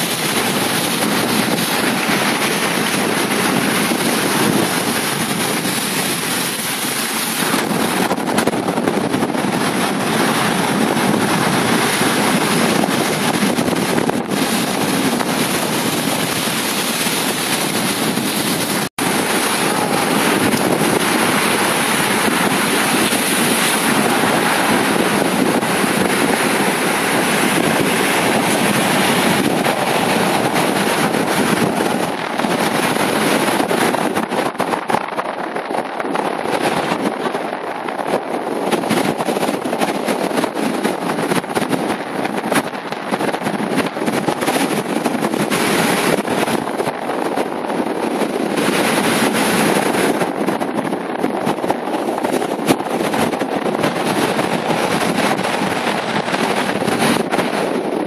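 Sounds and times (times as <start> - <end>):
surf breaking over rocks: 0.0 - 58.0
wind rushing over microphone: 0.0 - 58.0.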